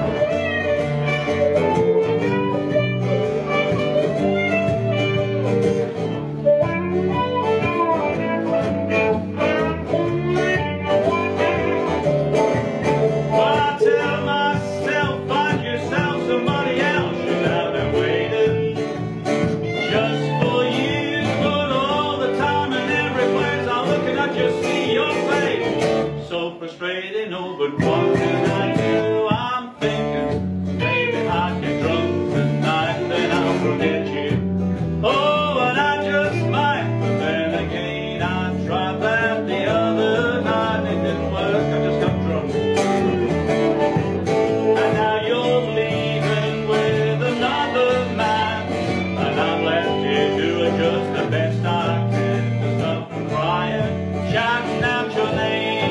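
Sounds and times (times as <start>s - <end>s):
fiddle: 0.0s - 26.2s, 27.4s - 55.9s
electric bass guitar: 0.0s - 26.3s, 27.7s - 55.9s
acoustic guitar: 0.0s - 55.9s
man singing: 7.6s - 12.1s, 12.8s - 55.9s.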